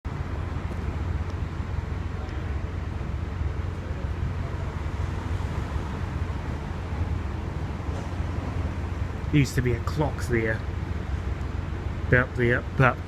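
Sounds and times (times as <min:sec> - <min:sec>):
street rumble: 0:00.0 - 0:13.0
wash of noise: 0:00.1 - 0:13.0.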